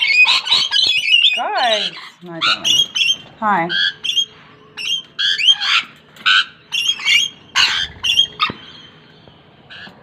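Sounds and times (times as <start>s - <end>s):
lorikeets screeching: 0.0s - 10.0s.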